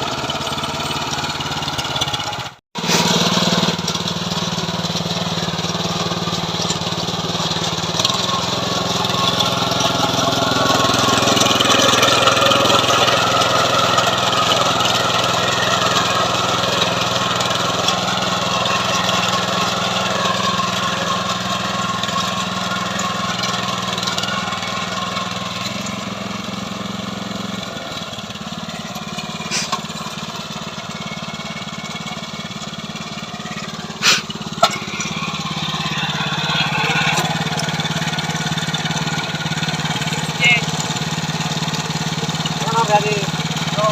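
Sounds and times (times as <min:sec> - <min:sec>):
small tiller engine running: 0:00.0 - 0:43.9.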